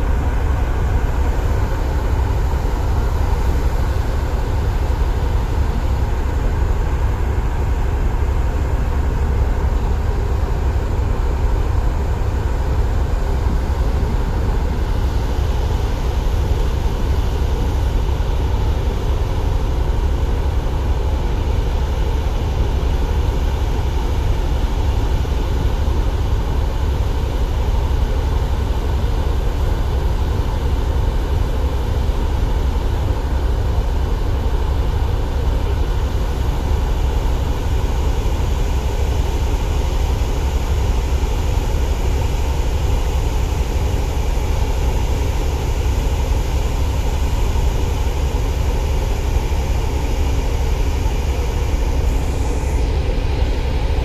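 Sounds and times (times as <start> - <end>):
ship engines droning: 0.0 - 54.0.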